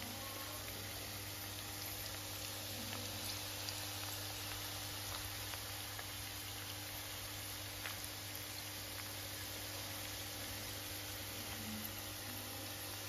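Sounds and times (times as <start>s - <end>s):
food sizzling in fat: 0.0s - 13.0s
small crackles of frying: 0.0s - 13.0s.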